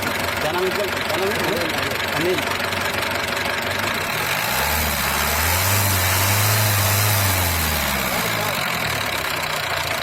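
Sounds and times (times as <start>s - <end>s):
diesel engine revving: 0.0s - 10.0s.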